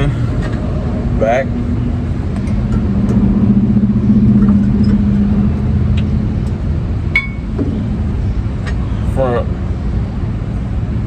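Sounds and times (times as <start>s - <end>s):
hum: 0.0s - 11.0s
low engine-like rumble: 0.0s - 11.0s.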